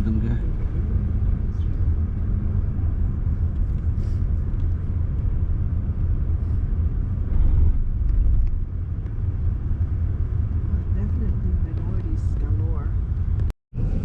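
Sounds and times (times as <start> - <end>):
car driving rumble from inside: 0.0 - 14.0.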